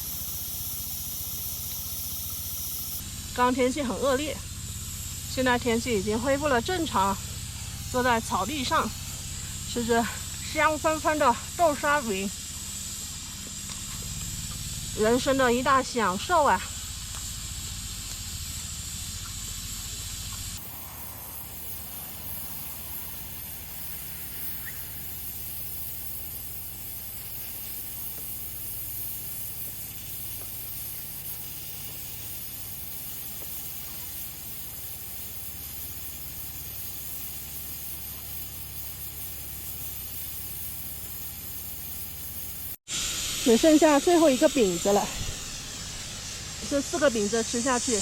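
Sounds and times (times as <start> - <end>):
steady hissing noise: 0.0 - 48.0.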